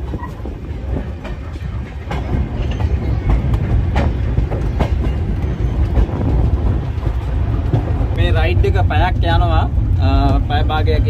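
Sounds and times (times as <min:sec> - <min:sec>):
train carriage rumble: 0:00.0 - 0:11.0
wheels clacking on track: 0:00.0 - 0:11.0.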